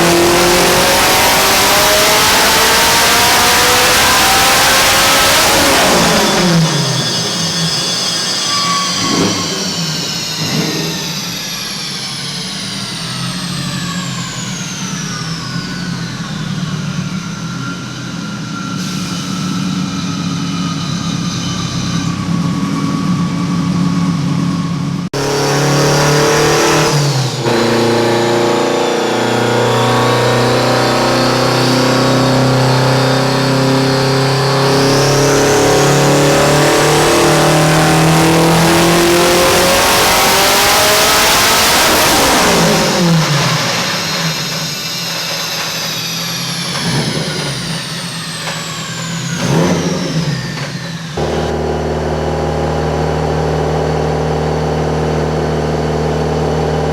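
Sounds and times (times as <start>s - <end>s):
engine on dyno rollers: 0.0s - 56.9s
high whine: 0.0s - 56.9s.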